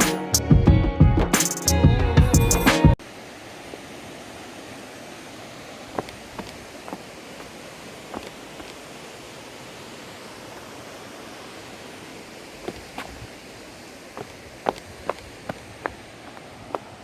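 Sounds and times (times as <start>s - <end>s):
waterfall rushing: 3.0s - 17.0s.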